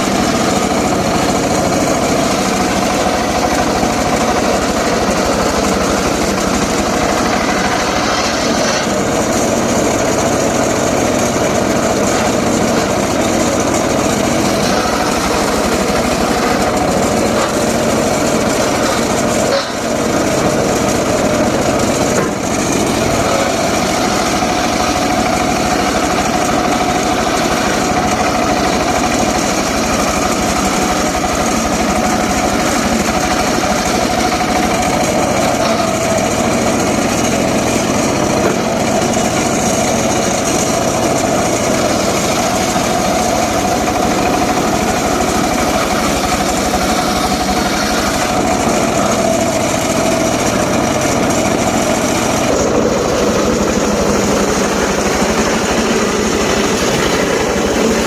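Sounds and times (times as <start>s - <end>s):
saw engine running: 0.0s - 58.0s
spinning saw blade whine: 0.0s - 58.0s.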